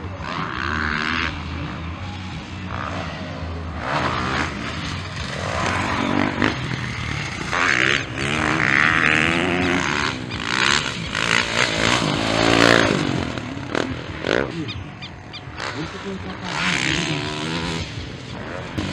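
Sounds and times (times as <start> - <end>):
motorbike engines revving: 0.0 - 18.9.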